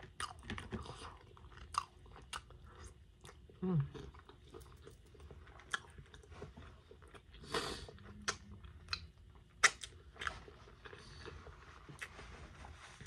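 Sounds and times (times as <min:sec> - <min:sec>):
person chewing: 0:00.0 - 0:12.2.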